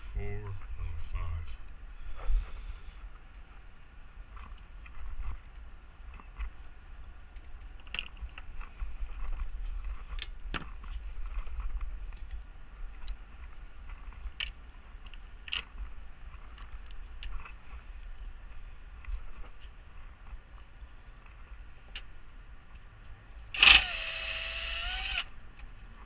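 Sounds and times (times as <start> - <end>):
steady low rumble: 0.0 - 25.1.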